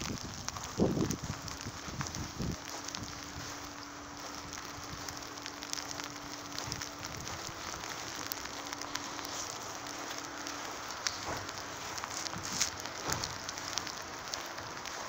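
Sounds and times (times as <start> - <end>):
faint steady hum: 0.0 - 15.0
snow ticking on surfaces: 0.0 - 15.0.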